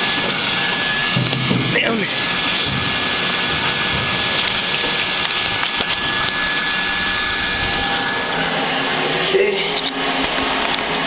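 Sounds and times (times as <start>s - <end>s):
thin steady whine: 0.0s - 11.0s
vacuum cleaner rushing air: 0.0s - 11.0s.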